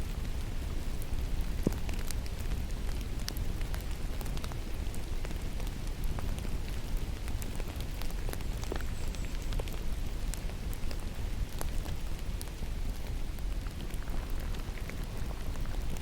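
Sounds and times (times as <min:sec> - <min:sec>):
rain falling in forest: 0:00.0 - 0:16.0.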